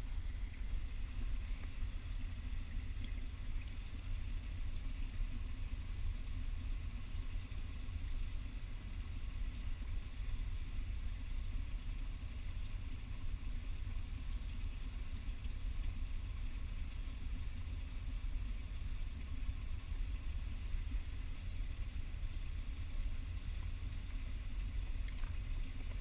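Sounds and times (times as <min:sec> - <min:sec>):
faint hiss: 0:00.0 - 0:26.0.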